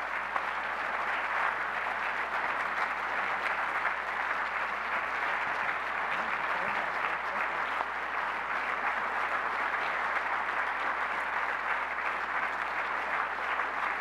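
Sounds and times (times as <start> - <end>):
large audience applauding: 0.0 - 14.0.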